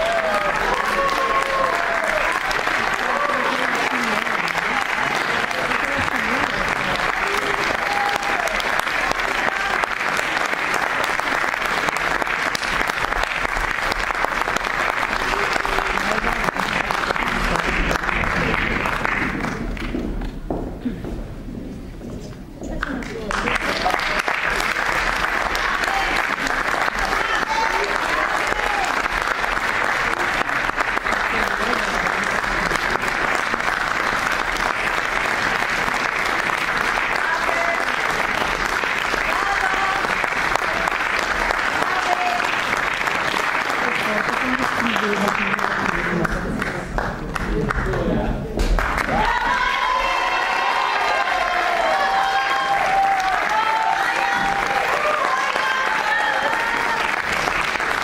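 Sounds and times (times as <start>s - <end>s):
audience applauding: 0.0s - 21.1s, 22.7s - 58.0s.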